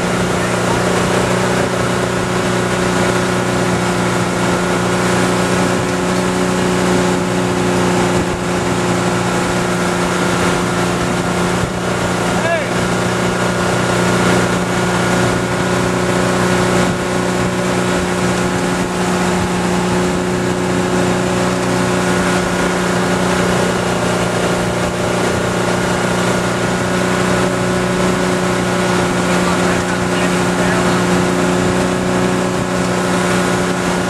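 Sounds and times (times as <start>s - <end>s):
boat engine running: 0.0s - 34.0s
rush of water: 0.0s - 34.0s.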